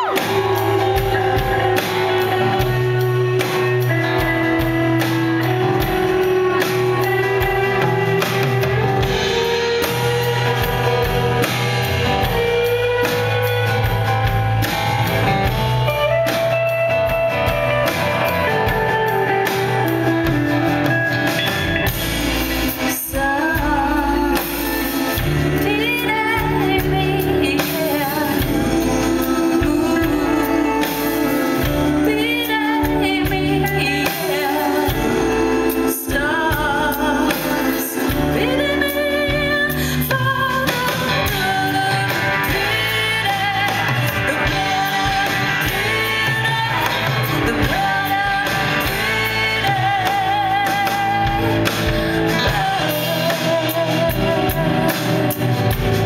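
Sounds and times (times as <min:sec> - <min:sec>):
woman singing: 0:00.0 - 0:14.8, 0:15.4 - 0:56.0
electric guitar lead: 0:00.0 - 0:56.0
rock band playing: 0:00.0 - 0:56.0.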